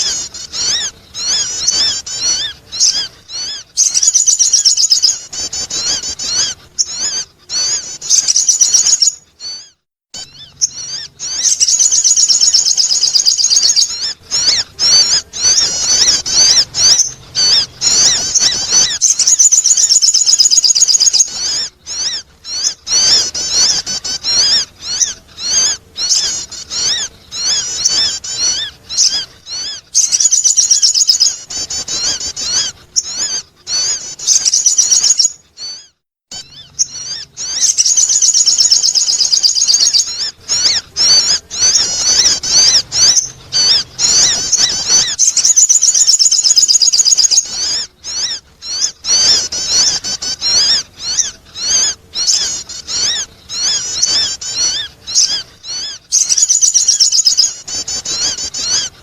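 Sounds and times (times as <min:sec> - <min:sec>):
bird chattering trills: 0:00.0 - 0:59.0.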